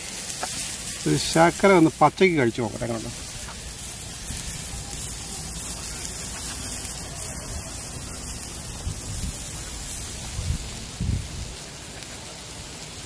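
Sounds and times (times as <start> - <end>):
vegetables frying in oil on griddle: 0.0 - 13.0.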